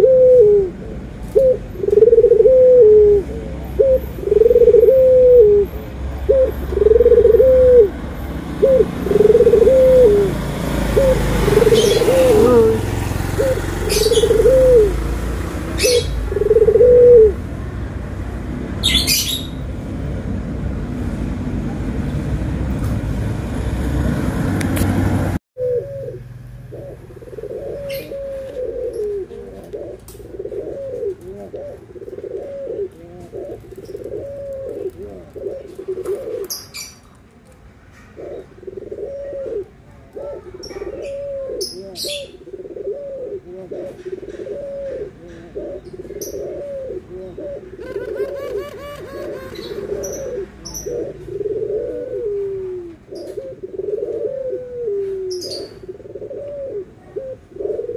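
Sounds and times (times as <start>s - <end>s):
doves cooing: 0.0s - 17.5s, 25.6s - 37.1s, 37.9s - 57.9s.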